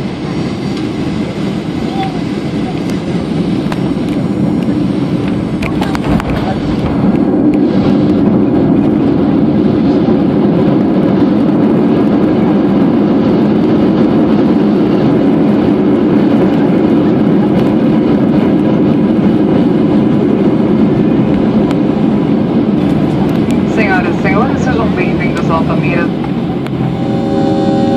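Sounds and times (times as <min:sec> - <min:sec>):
airplane cabin roar on runway: 0:00.0 - 0:27.9.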